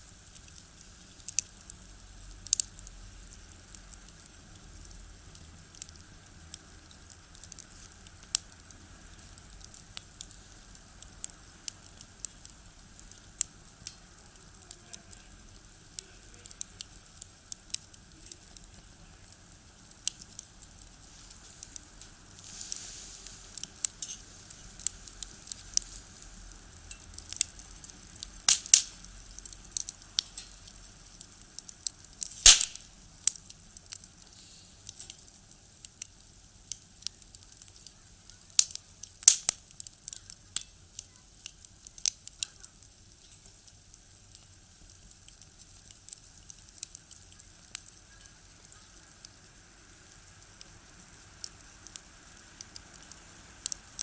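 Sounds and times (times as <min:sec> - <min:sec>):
fire hiss: 0:00.0 - 0:54.0
firewood crackling and popping: 0:00.0 - 0:54.0.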